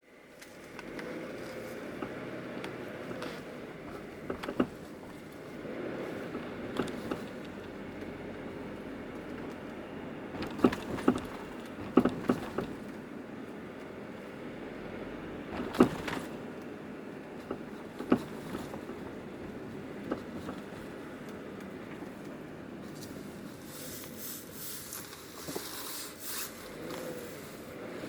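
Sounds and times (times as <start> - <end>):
car engine rumble: 0.0 - 28.0
car suspension clunking: 0.2 - 28.0.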